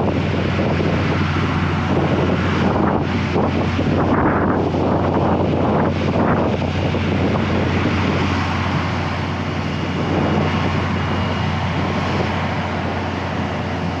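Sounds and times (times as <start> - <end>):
diesel engines droning: 0.0 - 14.0
wind noise on microphone: 0.0 - 14.0.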